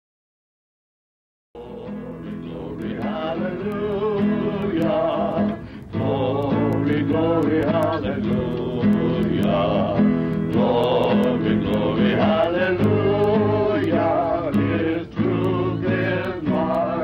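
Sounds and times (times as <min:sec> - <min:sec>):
voices singing held notes: 0:01.6 - 0:17.0.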